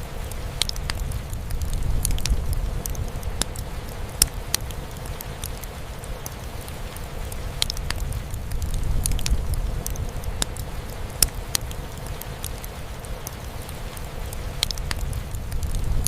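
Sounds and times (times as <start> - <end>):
rain falling on a roof: 0.0 - 16.0
wood fire crackling and popping: 0.0 - 16.0.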